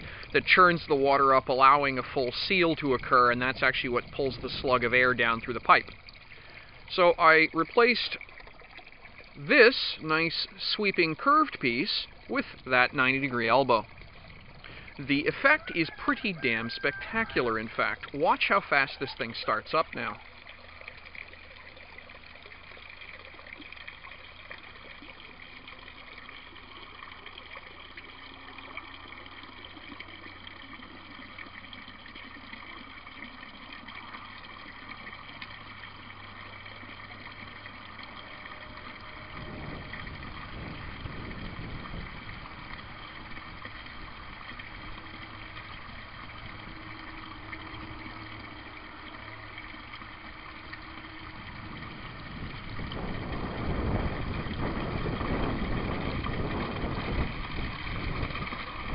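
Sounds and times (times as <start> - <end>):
water pouring into a tub: 0.0 - 58.9.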